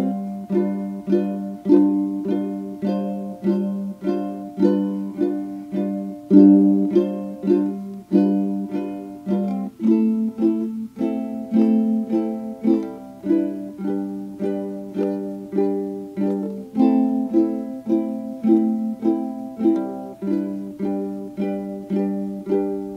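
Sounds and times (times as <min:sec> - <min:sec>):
plucked string music: 0:00.0 - 0:22.9.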